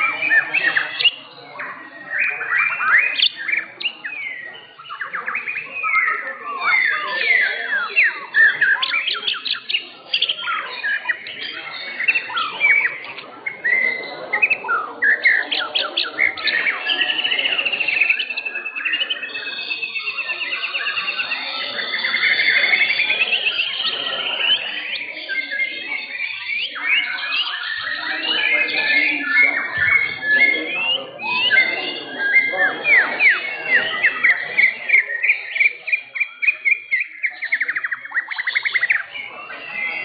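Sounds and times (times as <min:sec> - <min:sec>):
bird trill: 0:00.0 - 0:40.0
songbirds singing: 0:00.0 - 0:40.0.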